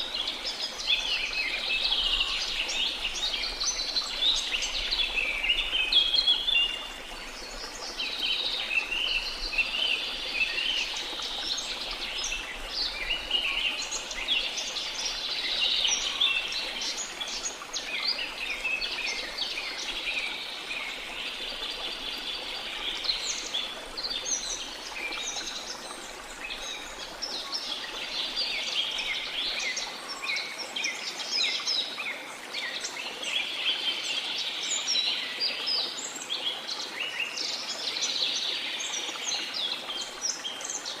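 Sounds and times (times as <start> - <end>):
flowing water hiss: 0.0 - 41.0.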